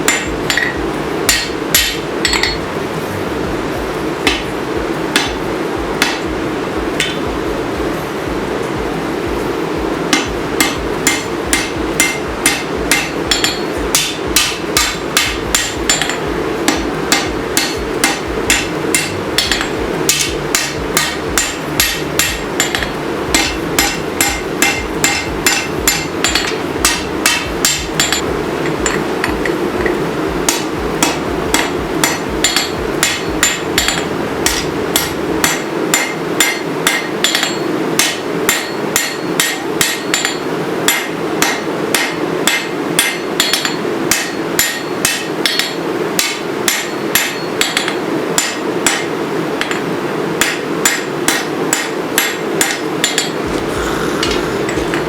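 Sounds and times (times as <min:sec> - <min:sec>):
hammer striking steel on anvil: 0:00.0 - 0:02.7, 0:04.2 - 0:04.5, 0:05.1 - 0:06.3, 0:07.0 - 0:07.3, 0:10.1 - 0:55.0
steady rushing noise: 0:00.0 - 0:55.0.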